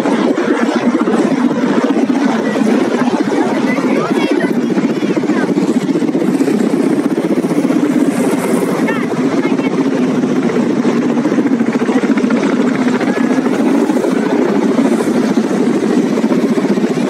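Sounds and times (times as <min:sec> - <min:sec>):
helicopter rotors beating: 0:00.0 - 0:17.0.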